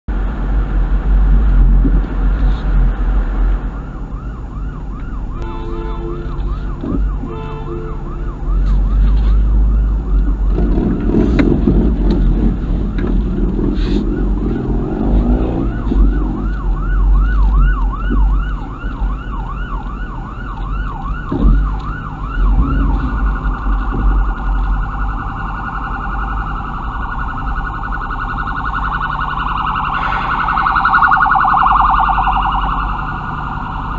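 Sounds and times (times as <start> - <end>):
ambulance siren wailing: 3.5 - 33.9.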